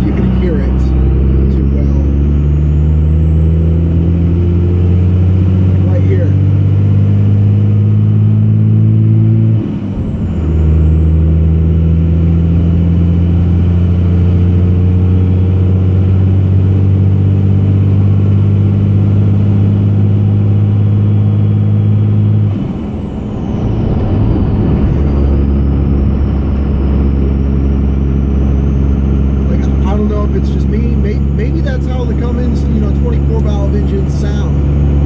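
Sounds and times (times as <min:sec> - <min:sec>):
diesel engine accelerating: 0:00.0 - 0:35.0.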